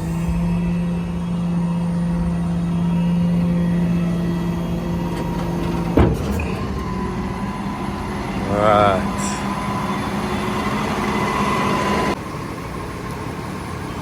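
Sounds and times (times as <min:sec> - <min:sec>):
diesel truck engine droning: 0:00.0 - 0:14.0.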